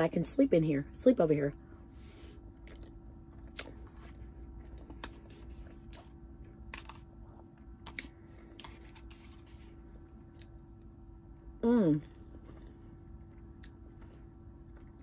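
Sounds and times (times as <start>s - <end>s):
faint steady hum: 0.0s - 15.0s
soft chewing: 1.6s - 11.0s, 12.0s - 15.0s.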